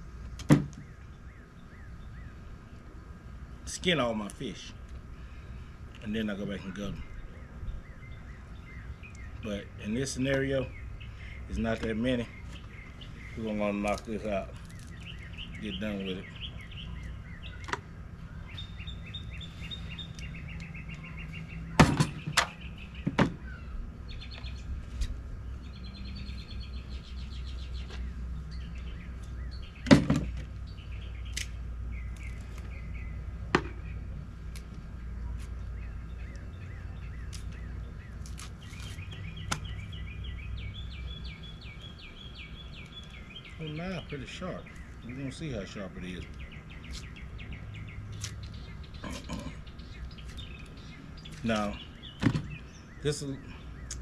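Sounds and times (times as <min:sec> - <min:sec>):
songbirds trilling: 0:00.0 - 0:54.0.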